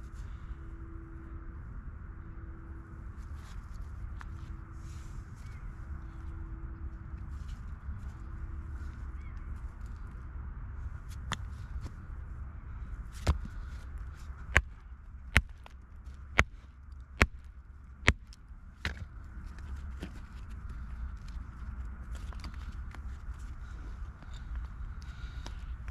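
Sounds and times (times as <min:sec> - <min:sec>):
steady low rumble: 0:00.0 - 0:25.9.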